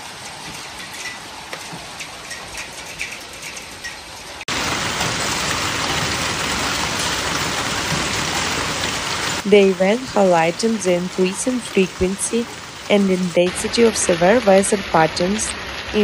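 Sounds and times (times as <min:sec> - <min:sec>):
hail and rain falling: 0:00.0 - 0:16.0
hailstones ticking on hard surfaces: 0:00.0 - 0:16.0.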